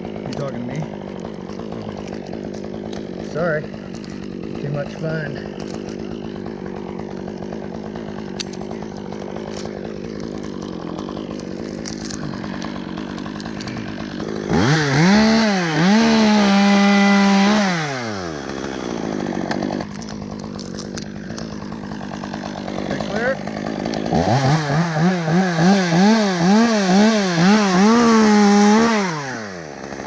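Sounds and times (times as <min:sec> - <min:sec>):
chainsaw idling and revving: 0:00.0 - 0:30.0.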